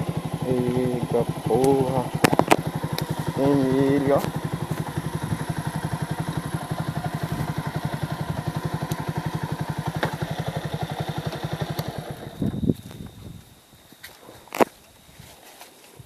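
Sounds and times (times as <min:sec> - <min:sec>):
motorcycle engine idling: 0:00.0 - 0:13.2.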